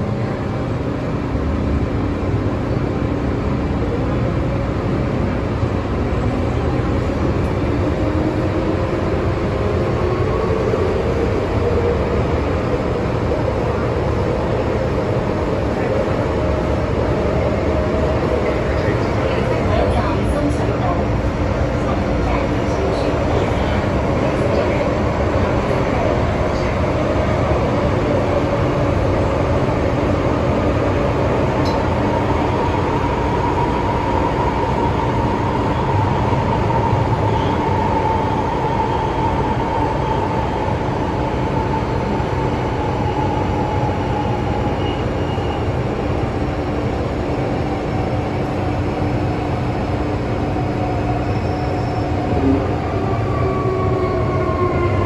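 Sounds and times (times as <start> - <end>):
train high howling whine: 0.0 - 55.0
train rail and wheel rumble: 0.0 - 55.0.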